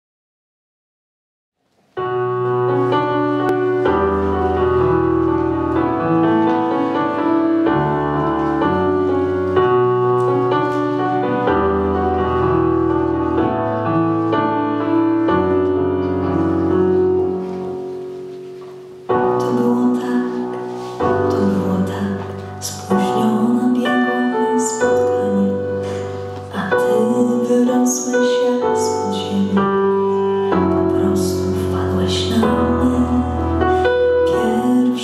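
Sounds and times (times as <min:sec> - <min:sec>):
piano chords: 0:01.7 - 0:35.0.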